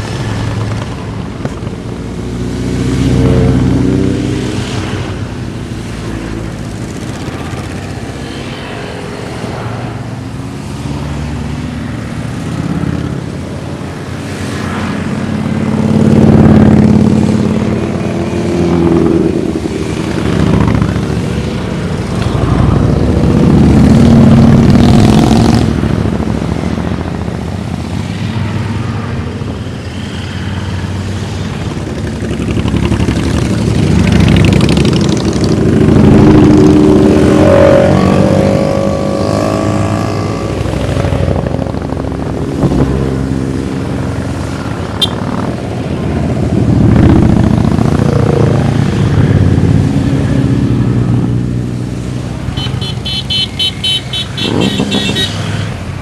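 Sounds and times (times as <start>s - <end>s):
motorcycles riding past: 0.0s - 56.0s.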